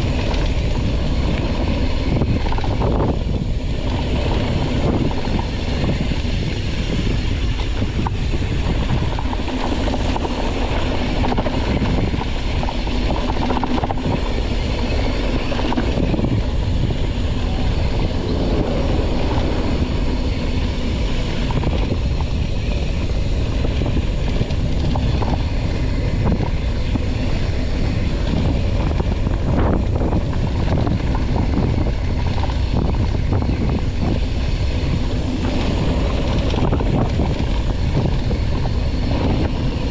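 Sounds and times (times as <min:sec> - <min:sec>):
bike tyre rumble: 0:00.0 - 0:39.9
wind buffeting microphone: 0:00.0 - 0:39.9.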